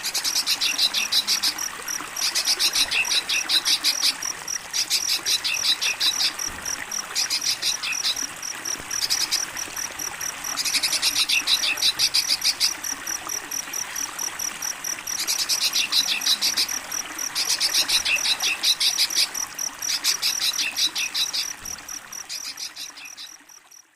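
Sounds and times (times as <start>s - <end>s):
crickets chirping: 0.0s - 23.9s
running water hiss: 0.0s - 23.9s.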